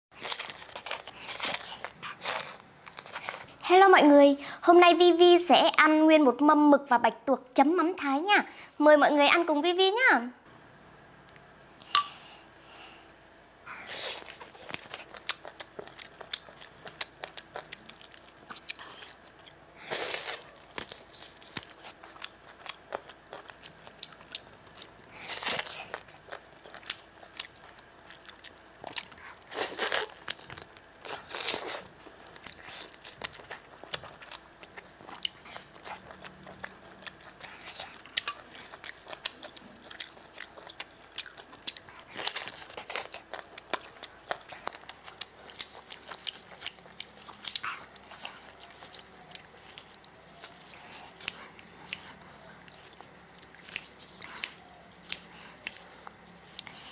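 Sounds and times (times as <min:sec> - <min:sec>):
person chewing crunchy food: 0:00.2 - 0:03.6, 0:13.8 - 0:56.9.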